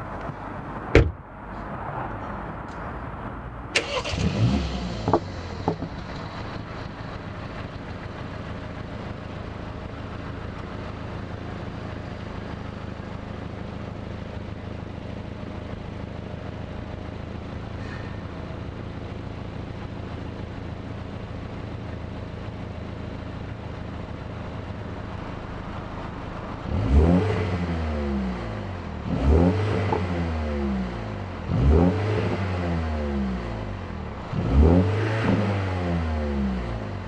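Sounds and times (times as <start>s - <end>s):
car engine starting and idling: 0.0s - 37.0s.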